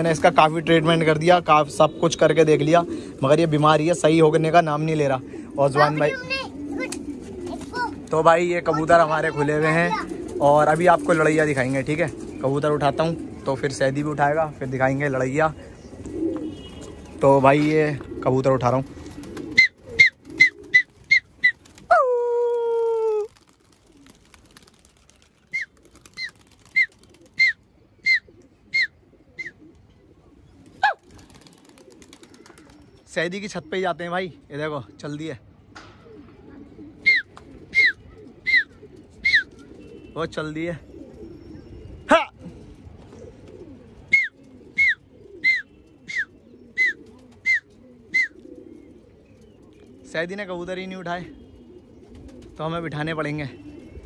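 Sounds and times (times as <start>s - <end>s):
pigeons cooing softly: 0.0s - 54.0s.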